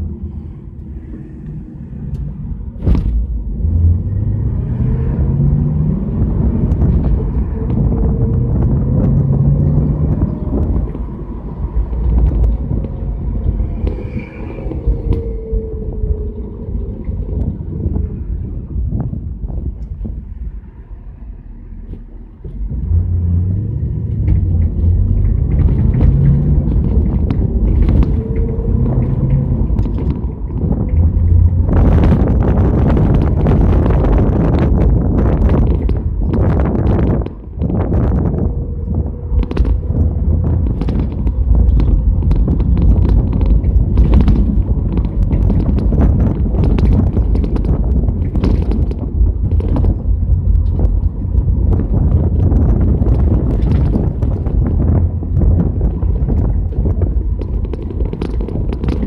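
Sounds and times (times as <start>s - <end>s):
car engine rumbling: 0.0s - 59.0s
sharp clicks and rattles: 5.4s - 18.1s, 23.9s - 59.0s.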